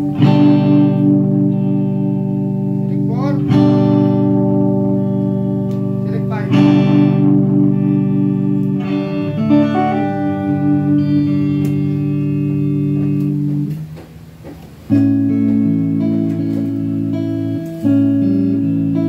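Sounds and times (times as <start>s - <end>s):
electric guitar chords: 0.0s - 19.0s.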